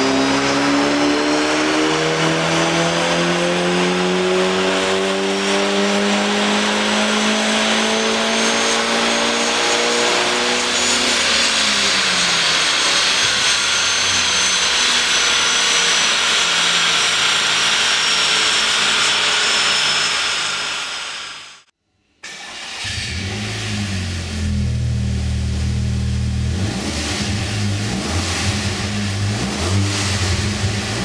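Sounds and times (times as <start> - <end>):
car engine revving on a dyno: 0.0 - 21.5, 22.3 - 31.0.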